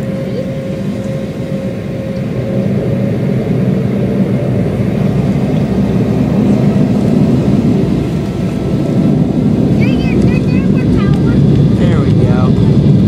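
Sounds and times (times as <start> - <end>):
jet engine drone in cabin: 0.0 - 13.0.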